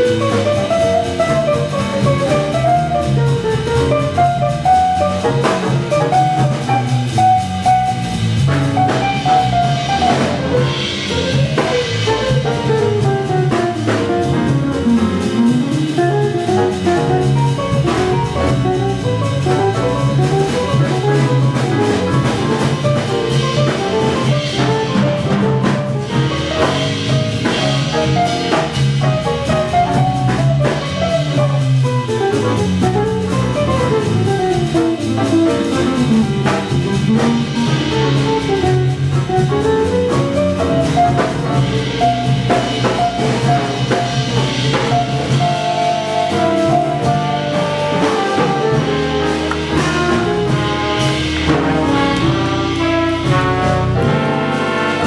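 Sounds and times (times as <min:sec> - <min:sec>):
bass line: 0:00.0 - 0:55.0
drum kit: 0:00.0 - 0:55.0
fast melodic runs: 0:00.0 - 0:55.0.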